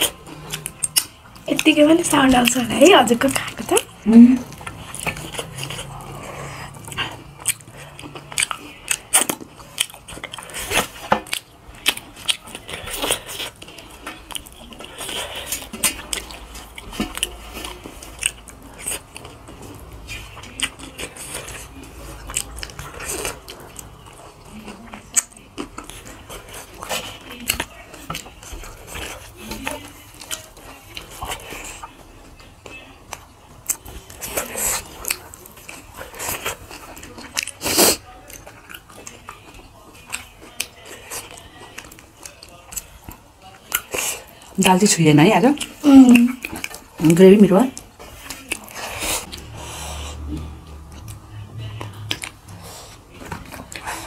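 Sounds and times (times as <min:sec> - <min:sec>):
wet chewing and lip smacks: 0:00.0 - 0:44.6, 0:45.6 - 0:49.6, 0:50.2 - 0:54.0.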